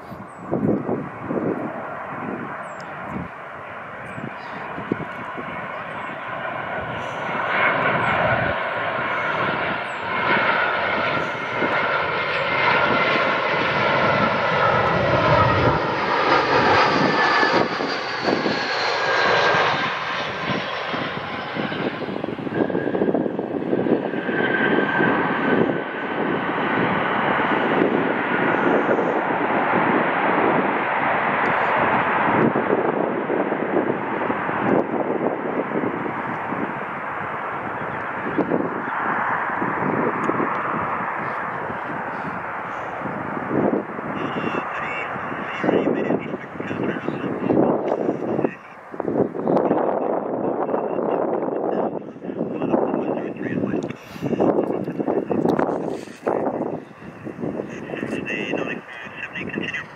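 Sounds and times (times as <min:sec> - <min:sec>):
jet airliner engine rumble and whine: 0:00.0 - 0:59.9
wind buffeting microphone: 0:00.0 - 0:59.9.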